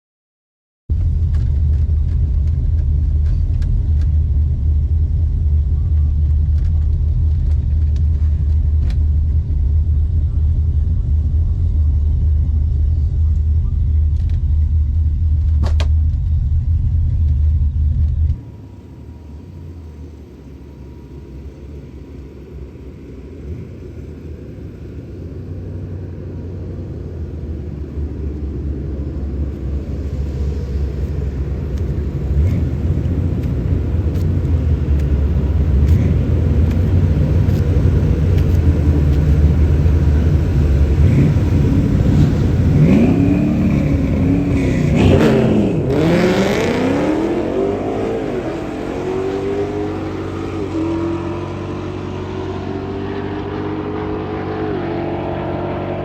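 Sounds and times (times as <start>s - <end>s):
car engine rumbling: 0.9s - 56.0s.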